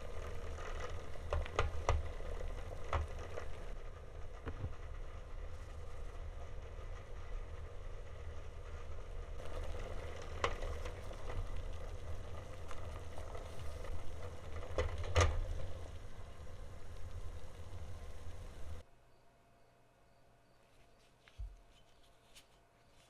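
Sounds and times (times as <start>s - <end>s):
machine humming: 0.0s - 18.8s.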